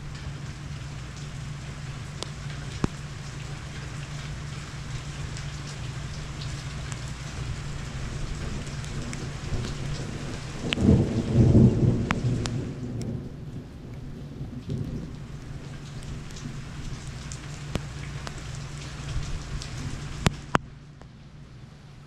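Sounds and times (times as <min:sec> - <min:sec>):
thunder rumble: 0:00.0 - 0:20.6
steady rain falling: 0:00.0 - 0:22.0.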